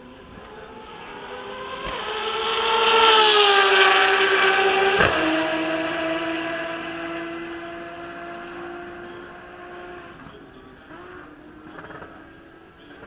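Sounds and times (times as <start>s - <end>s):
race car passing by: 0.0s - 12.4s.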